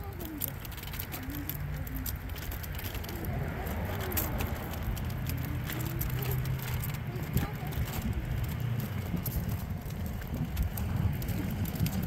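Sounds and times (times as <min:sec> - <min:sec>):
low hum of traffic: 0:00.0 - 0:12.0.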